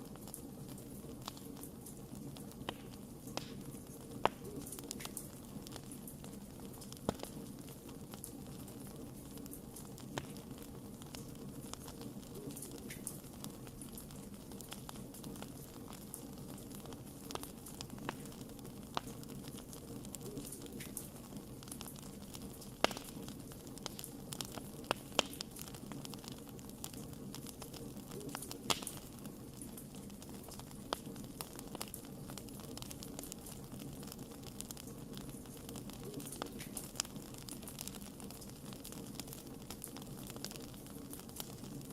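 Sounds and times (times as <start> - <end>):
campfire crackling: 0.0 - 41.9.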